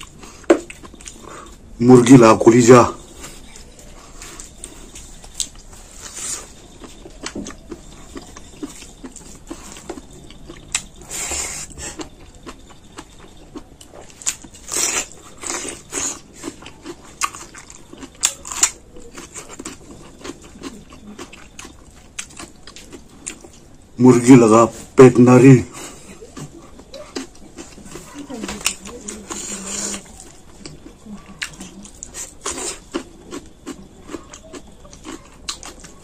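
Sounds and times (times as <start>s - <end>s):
mouth chewing: 0.0s - 25.0s, 25.6s - 36.0s
crunching: 0.0s - 36.0s.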